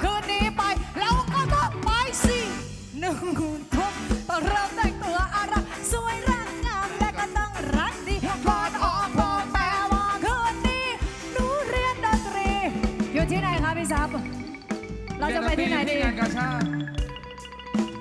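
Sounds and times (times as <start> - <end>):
bending lead melody: 0.0 - 18.0
live band playing pop-rock: 0.0 - 18.0
steady drum beat: 0.0 - 18.0.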